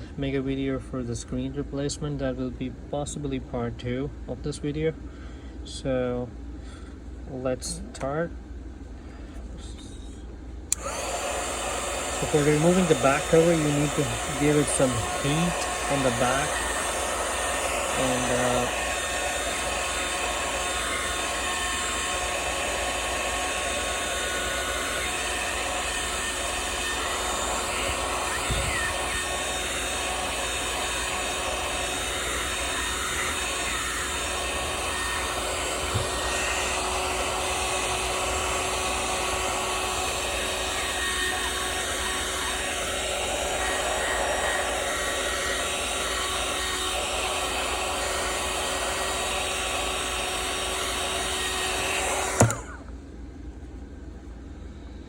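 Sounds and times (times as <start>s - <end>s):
hot-air blower running: 10.4s - 55.0s.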